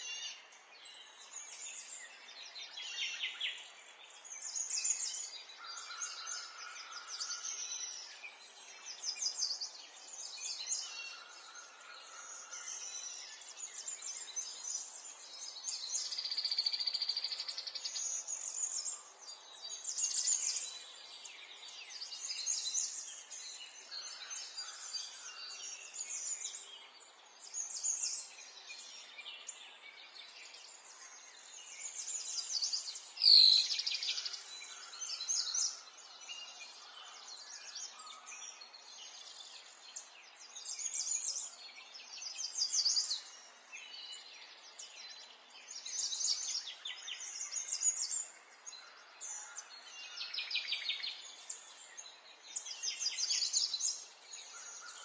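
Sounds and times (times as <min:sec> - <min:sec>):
faint outdoor background hiss: 0:00.0 - 0:55.0
songbirds chirping: 0:00.0 - 0:55.0.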